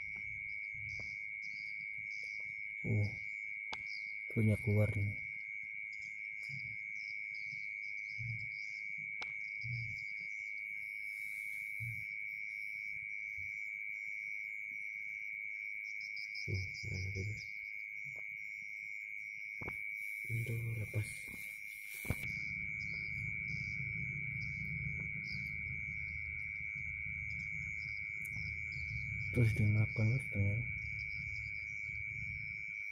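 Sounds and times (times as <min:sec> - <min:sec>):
crickets chirping rapidly: 0:00.0 - 0:32.9
insect high trill: 0:00.0 - 0:32.9.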